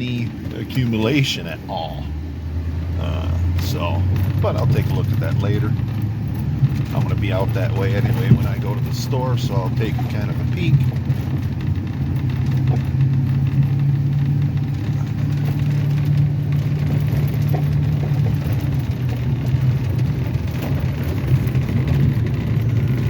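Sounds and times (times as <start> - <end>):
truck engine humming: 0.0 - 23.0.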